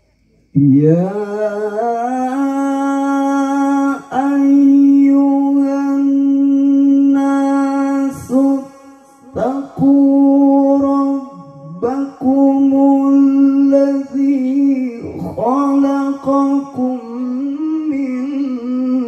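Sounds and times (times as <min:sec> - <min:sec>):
man reciting melodically over pa: 0:00.0 - 0:19.0.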